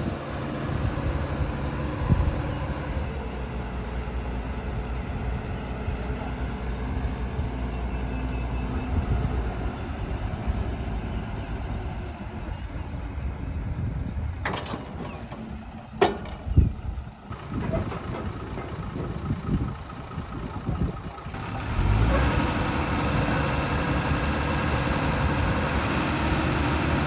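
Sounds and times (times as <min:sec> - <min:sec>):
heavy engine humming: 0:00.0 - 0:27.0.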